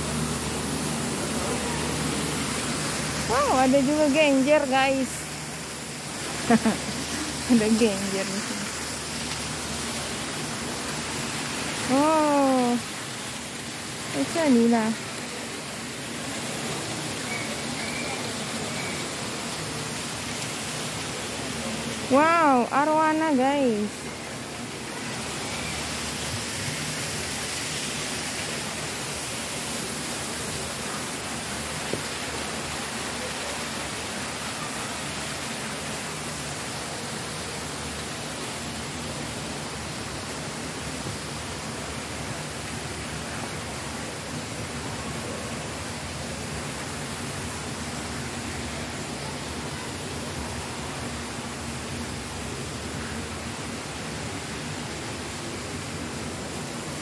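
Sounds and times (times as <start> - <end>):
water rushing into pond: 0.0 - 57.0.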